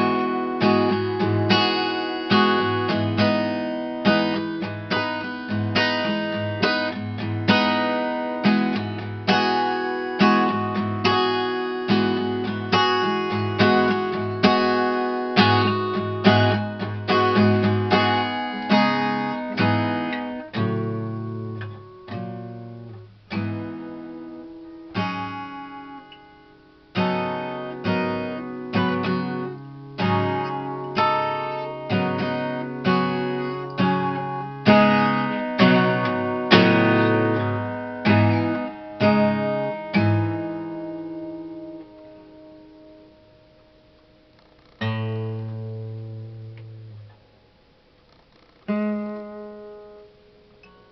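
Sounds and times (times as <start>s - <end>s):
acoustic guitar strumming: 0.0s - 50.9s
guitar picked notes ringing: 0.0s - 50.9s.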